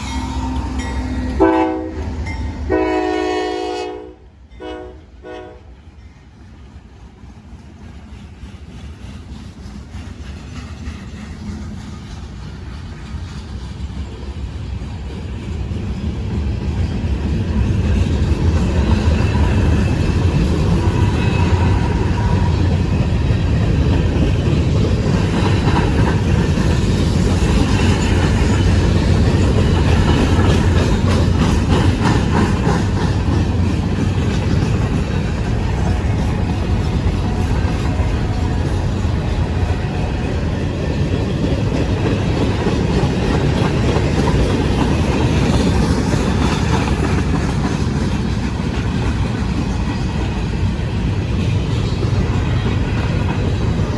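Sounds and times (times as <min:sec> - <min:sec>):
train rumble: 0:00.0 - 0:53.9
wheels clattering over rail joints: 0:08.0 - 0:53.9.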